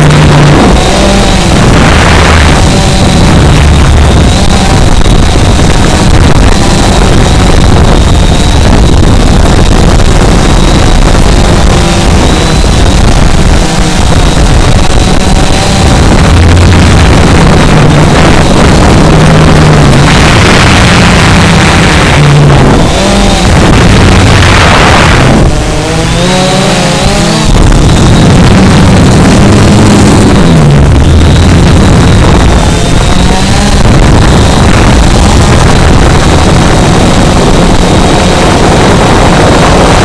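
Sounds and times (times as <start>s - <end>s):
faint high whine: 0.0s - 40.0s
quadcopter motors and propellers: 0.0s - 40.0s
wind rushing over microphone: 0.0s - 40.0s.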